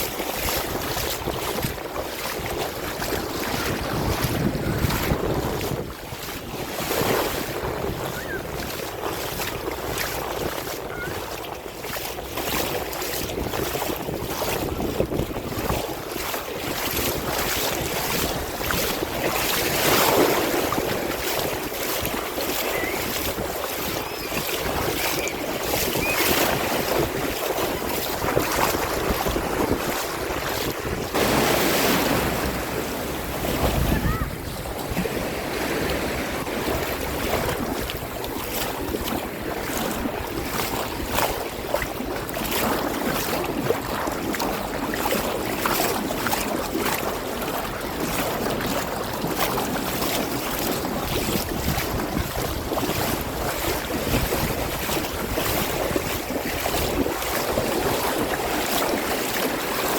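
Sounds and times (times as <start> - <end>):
sea waves washing: 0.0 - 59.9
wind buffeting microphone: 0.0 - 59.9.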